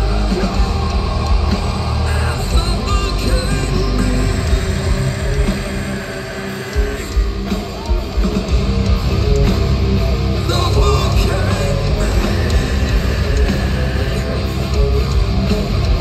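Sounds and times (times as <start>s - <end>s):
person singing: 0.0s - 8.5s, 10.4s - 15.2s
heavy rock band playing: 0.0s - 16.0s.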